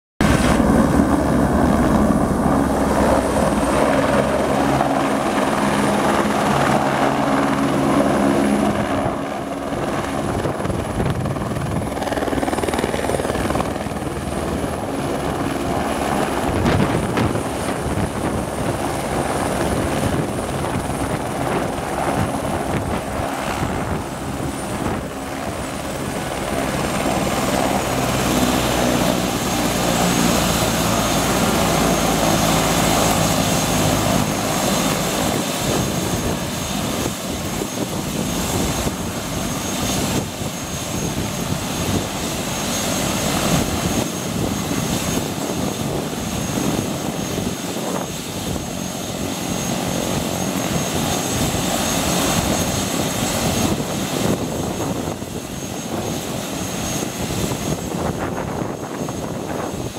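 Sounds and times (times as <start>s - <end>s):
helicopter rotor beating: 0.2s - 59.9s
turbine whine: 0.2s - 59.9s.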